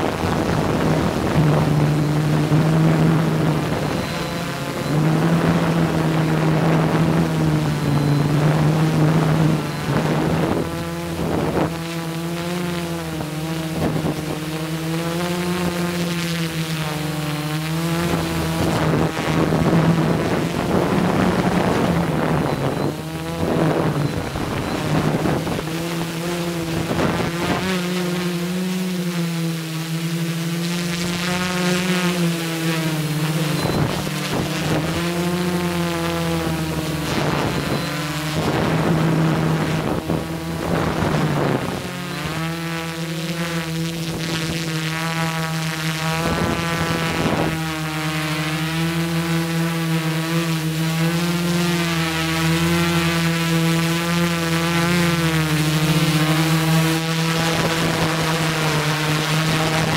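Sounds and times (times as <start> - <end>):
drone propellers humming: 0.0 - 59.9
wind gusts on microphone: 0.0 - 59.9.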